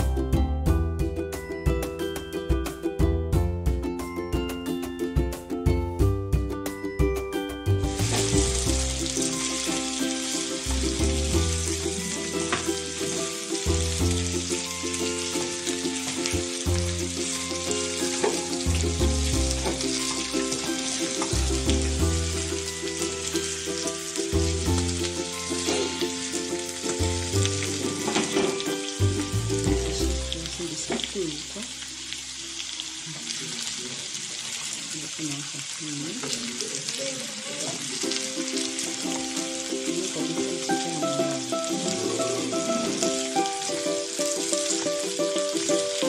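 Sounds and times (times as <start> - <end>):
background music: 0.0 - 32.4, 38.1 - 46.0
potatoes sizzling in oil: 7.4 - 46.0.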